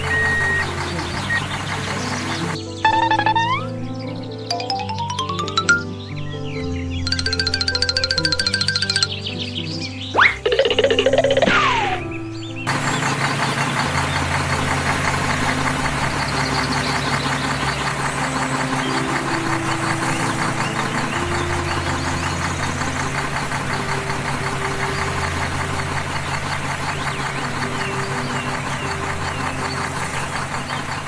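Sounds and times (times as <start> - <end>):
tractor engine chugging: 0.0 - 6.0, 7.0 - 9.8, 10.4 - 31.0
low held tones: 2.8 - 31.0.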